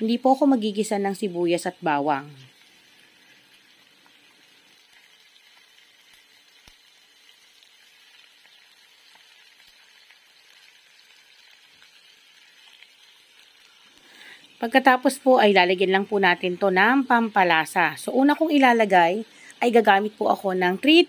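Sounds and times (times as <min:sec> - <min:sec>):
chicken frying in oil: 0:00.0 - 0:21.0.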